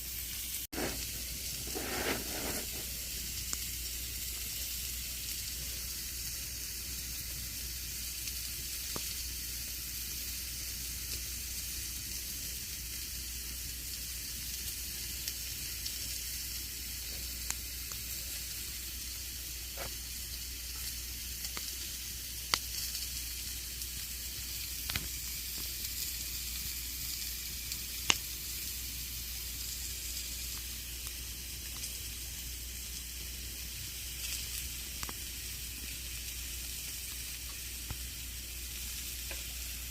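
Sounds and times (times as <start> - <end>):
campfire hiss: 0.0 - 39.9
fire crackles and pops: 0.0 - 39.9.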